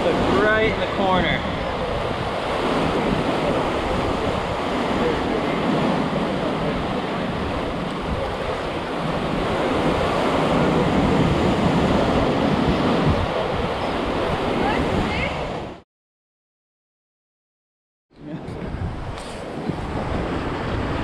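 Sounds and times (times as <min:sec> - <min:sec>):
ocean waves washing: 0:00.0 - 0:15.8, 0:18.2 - 0:21.0
wind buffeting microphone: 0:00.0 - 0:15.8, 0:18.2 - 0:21.0.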